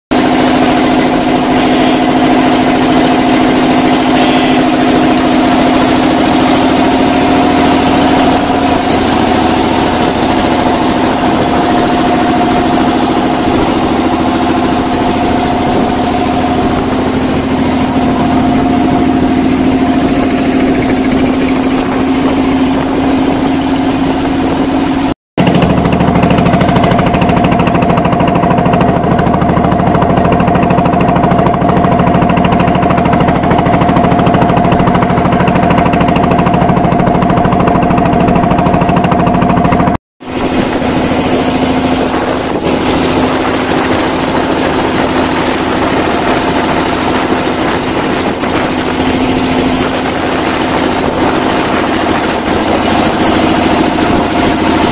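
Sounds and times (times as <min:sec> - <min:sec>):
motor boat engine drone: 0:00.1 - 0:54.9.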